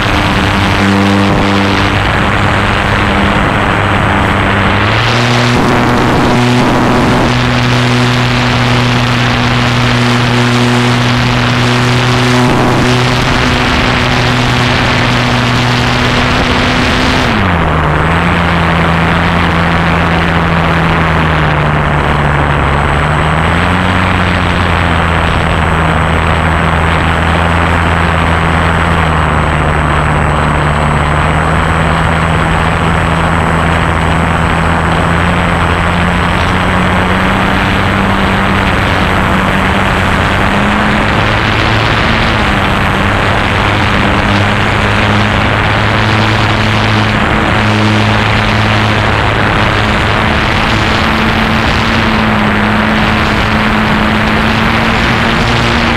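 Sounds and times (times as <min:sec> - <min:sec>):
model airplane motor humming: 0:00.0 - 0:55.9
rush of air: 0:00.0 - 0:55.9.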